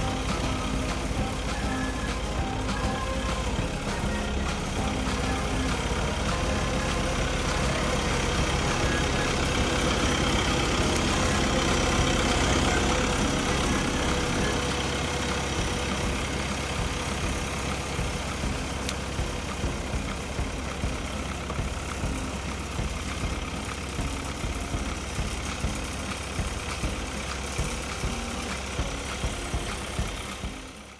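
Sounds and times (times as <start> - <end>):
stump grinder grinding: 0.0 - 30.9.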